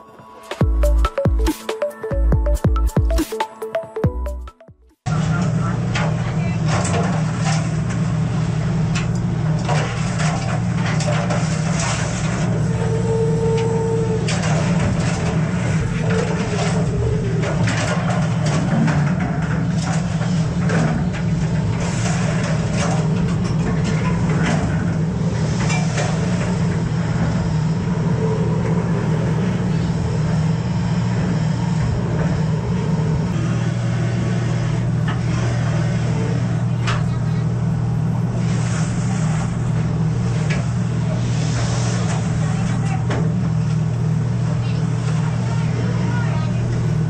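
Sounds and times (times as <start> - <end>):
boat machinery droning: 5.1 - 47.0.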